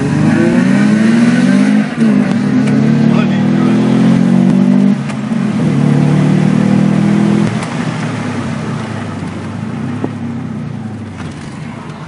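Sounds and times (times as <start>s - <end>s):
car engine under load: 0.0s - 12.0s
road noise: 0.0s - 12.0s.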